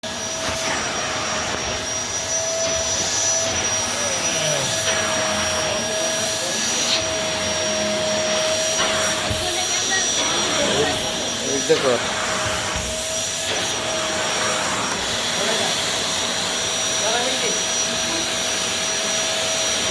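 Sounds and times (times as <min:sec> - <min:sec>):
vacuum cleaner running: 0:00.0 - 0:19.9.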